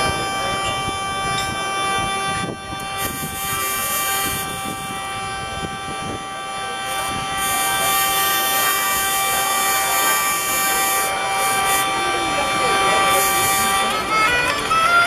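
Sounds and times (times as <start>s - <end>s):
hurdy-gurdy droning: 0.0s - 15.0s.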